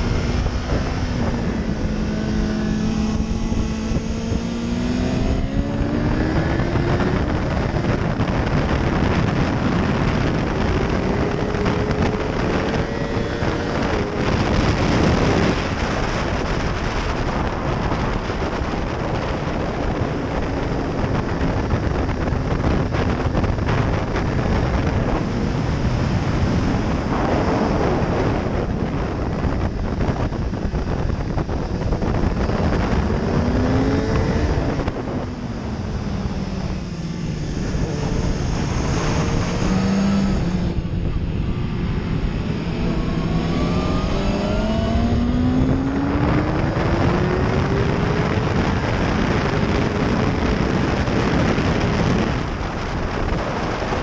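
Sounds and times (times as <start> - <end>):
motorcycle engine revving high: 0.0 - 54.0
wind rush over microphone: 0.0 - 54.0.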